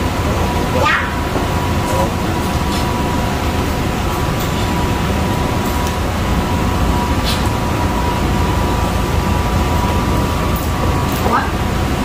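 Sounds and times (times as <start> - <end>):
machinery rumble: 0.0 - 12.0.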